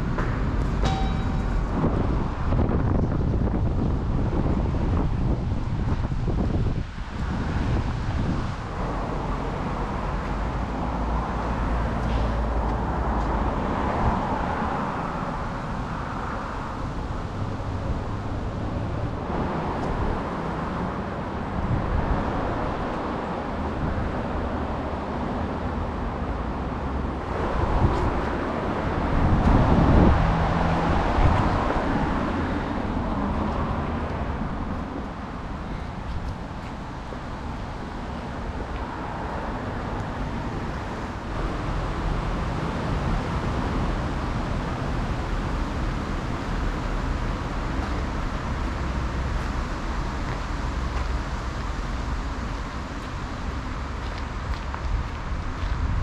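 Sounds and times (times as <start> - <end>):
passing cars hum: 0.0 - 56.0.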